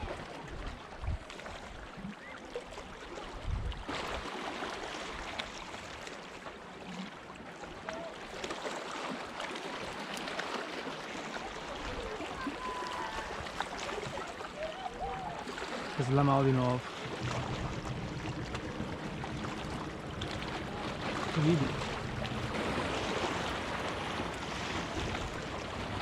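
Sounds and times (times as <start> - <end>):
sea water lapping against rocks: 0.0 - 26.0.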